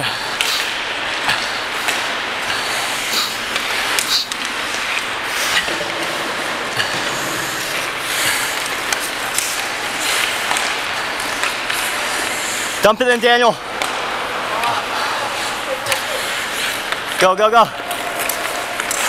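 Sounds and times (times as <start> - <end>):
hockey sticks and puck clacking: 0.3 - 19.0
skate blades scraping ice: 1.4 - 12.8, 13.8 - 17.2, 17.8 - 19.0.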